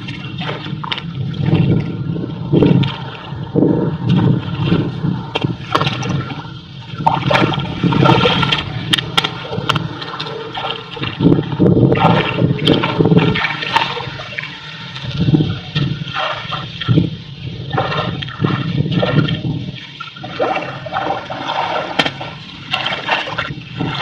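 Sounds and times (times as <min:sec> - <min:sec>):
muddy water sloshing and splashing: 0:00.0 - 0:24.0.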